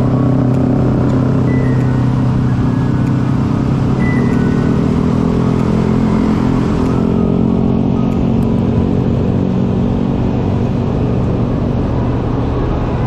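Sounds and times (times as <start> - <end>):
motorcycle engine running: 0.0 - 12.3
road and traffic noise: 0.0 - 13.0.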